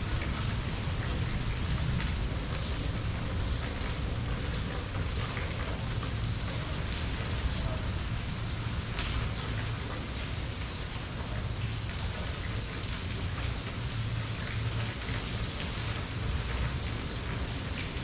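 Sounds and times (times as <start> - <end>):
raindrops ticking: 0.0 - 18.0
steady rain pattering: 0.0 - 18.0.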